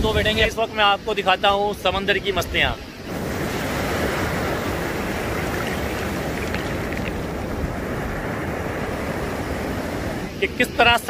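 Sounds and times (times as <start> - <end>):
storm surf breaking on beach: 0.0 - 11.0.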